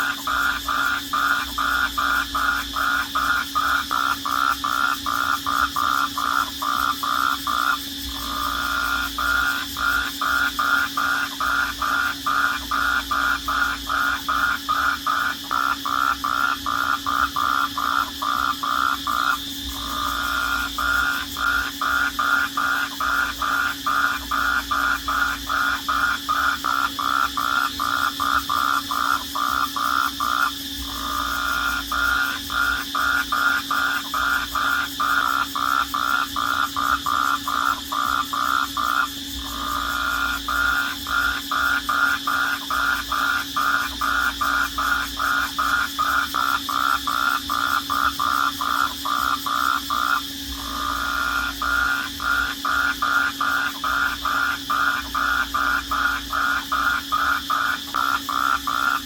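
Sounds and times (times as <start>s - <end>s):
crickets trilling: 0.0s - 59.0s
pulsing insect call: 0.0s - 59.0s.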